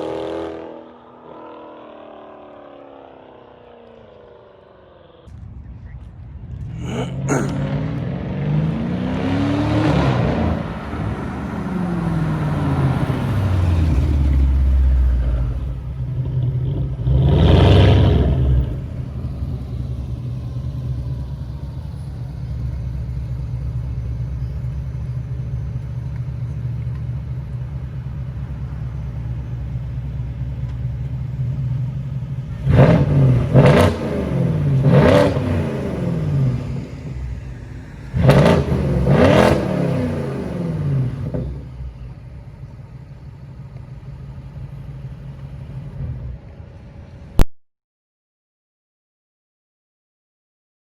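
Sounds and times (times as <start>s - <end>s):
car engine revving and idling: 0.0s - 47.4s.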